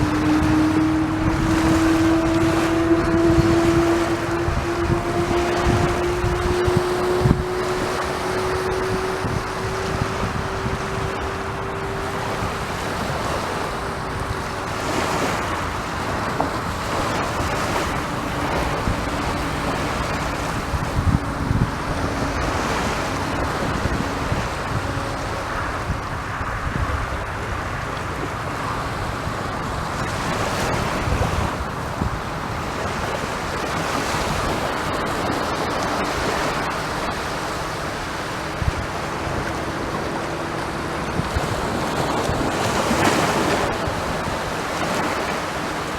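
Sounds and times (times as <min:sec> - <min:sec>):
waves breaking on beach: 0:00.0 - 0:45.9
wind buffeting microphone: 0:00.0 - 0:45.9.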